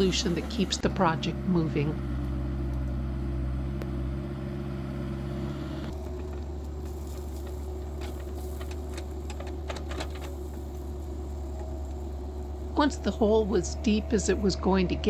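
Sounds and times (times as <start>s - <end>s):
digging machine engine running: 0.0s - 15.0s.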